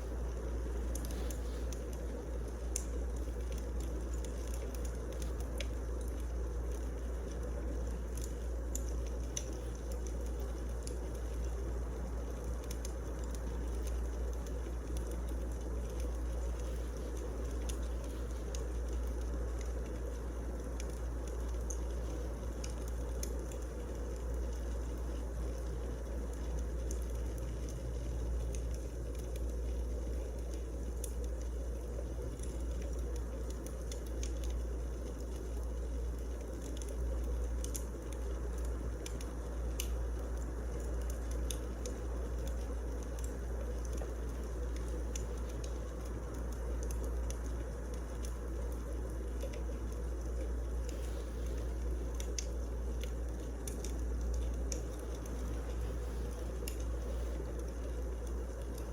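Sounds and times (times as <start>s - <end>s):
fire crackling and popping: 0.0s - 58.9s
fire rumbling: 0.0s - 58.9s.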